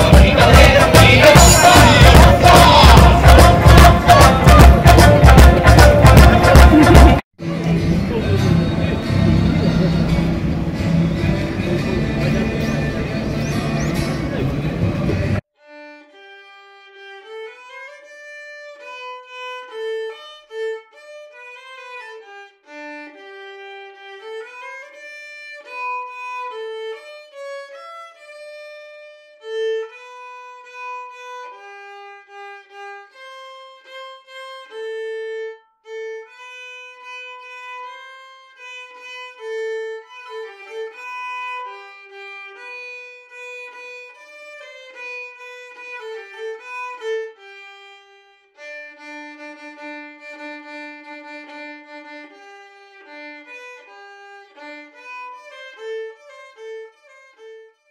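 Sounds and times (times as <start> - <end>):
solo bowed string melody: 0.0 - 57.9.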